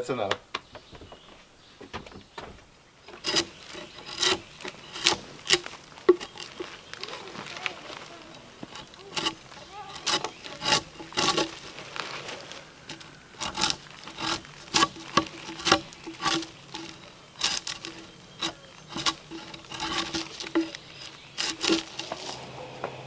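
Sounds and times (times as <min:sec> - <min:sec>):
bark scraped off log: 0:03.2 - 0:22.6.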